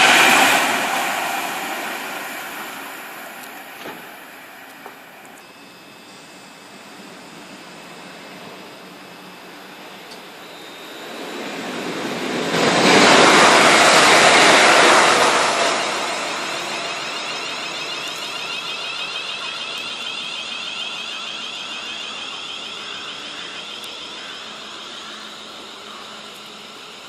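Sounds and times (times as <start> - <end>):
train passing with rushing roar: 0.0 - 27.0.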